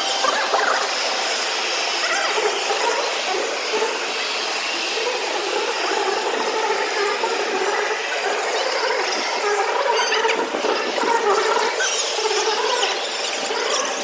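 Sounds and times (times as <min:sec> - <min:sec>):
crowd of people talking and calling: 0:00.0 - 0:14.0.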